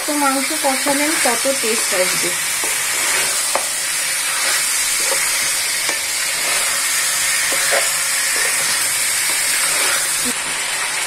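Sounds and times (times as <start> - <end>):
meat sizzling in oil: 0.0 - 11.0
spatula scraping pan: 0.6 - 10.4.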